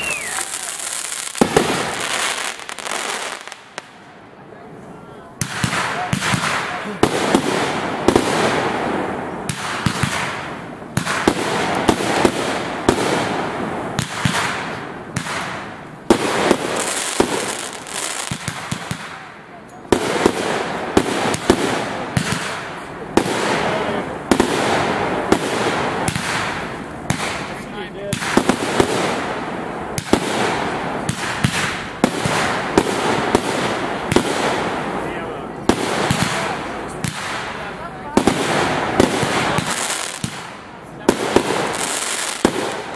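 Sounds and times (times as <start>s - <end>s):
firework crackling and hiss: 0.0s - 4.2s, 4.8s - 42.9s.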